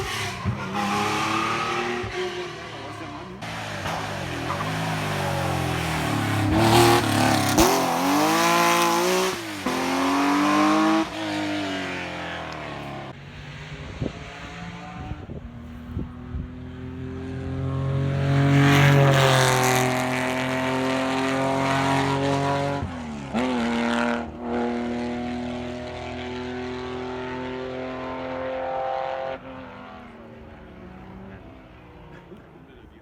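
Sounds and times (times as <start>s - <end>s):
rally car engine passing: 0.0s - 33.0s.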